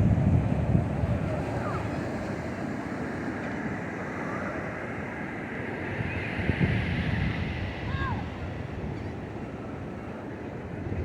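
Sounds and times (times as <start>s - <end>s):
wind buffeting microphone: 0.0s - 4.1s, 5.1s - 11.0s
ocean surf washing on beach: 0.0s - 11.0s.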